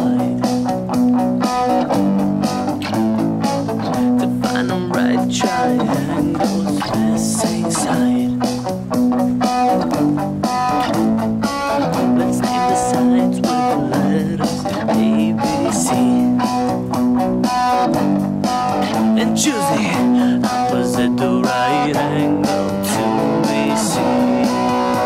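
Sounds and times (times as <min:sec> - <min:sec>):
electric guitar playing: 0:00.0 - 0:25.0
programmed drum beat: 0:00.0 - 0:25.0.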